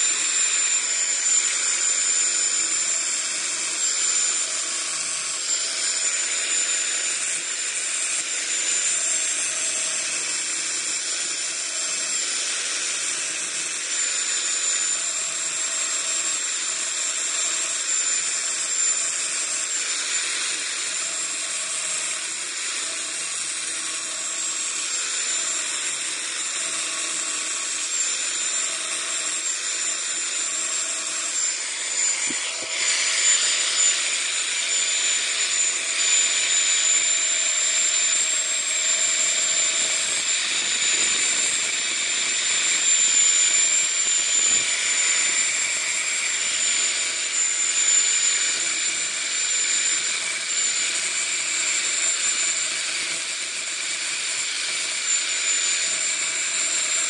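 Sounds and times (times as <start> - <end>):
electric grinder whining: 0.0 - 57.0
grinding hiss: 0.0 - 57.0.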